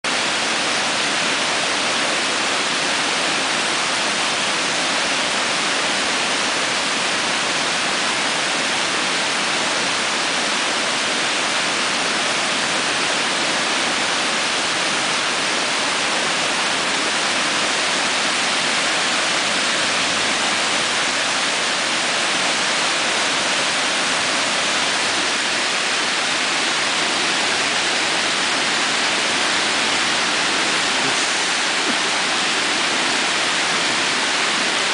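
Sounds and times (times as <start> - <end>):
river rushing over a dam: 0.1 - 34.9.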